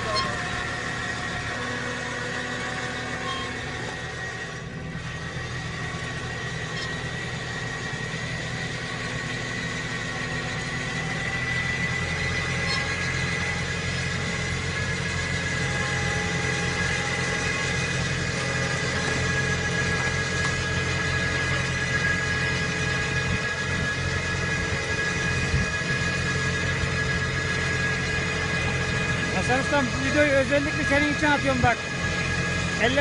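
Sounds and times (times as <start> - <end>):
high-pitched whine: 0.0 - 33.0
tractor engine under load: 0.0 - 33.0.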